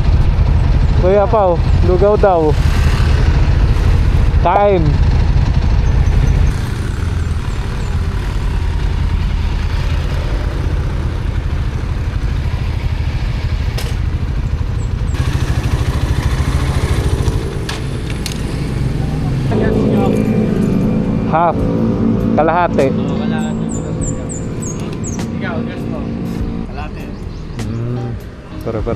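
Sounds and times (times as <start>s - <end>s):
motorcycle engine rumbling: 0.0s - 28.9s.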